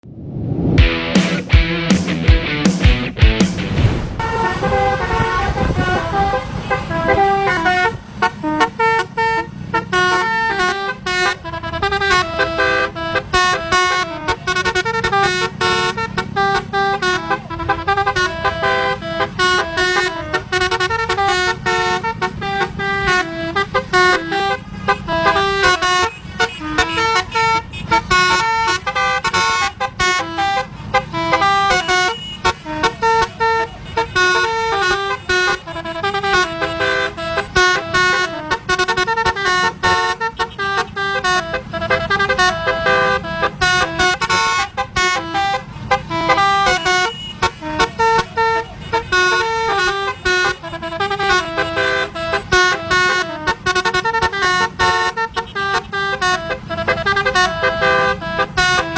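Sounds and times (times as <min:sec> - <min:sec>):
road and engine rumble: 0:00.0 - 0:58.9.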